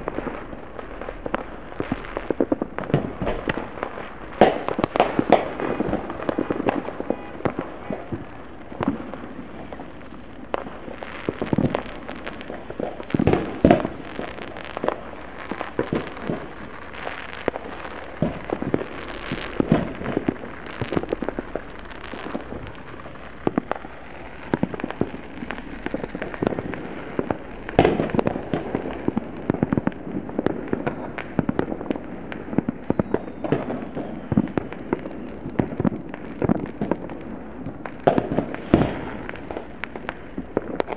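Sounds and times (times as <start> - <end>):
distant fireworks bangs: 0.0 - 40.9.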